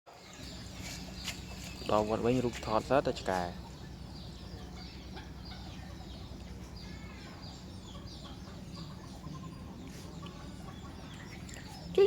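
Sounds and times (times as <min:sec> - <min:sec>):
high bird calls chirping: 0:00.2 - 0:12.0
low steady hum: 0:00.2 - 0:12.0.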